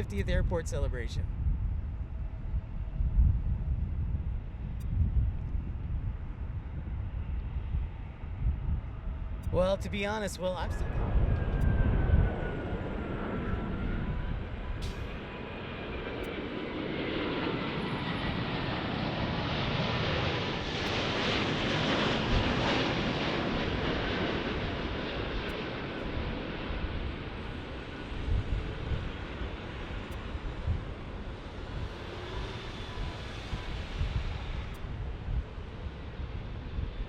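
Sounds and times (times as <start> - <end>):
jet airliner passing: 0.0 - 37.0
jet engine whine: 0.0 - 37.0.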